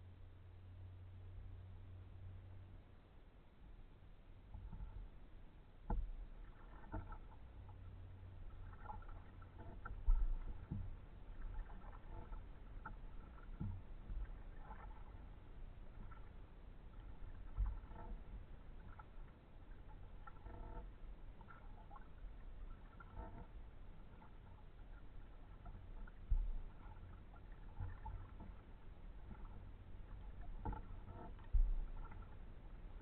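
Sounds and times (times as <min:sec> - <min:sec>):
paddle moving water: 0:00.1 - 0:33.0.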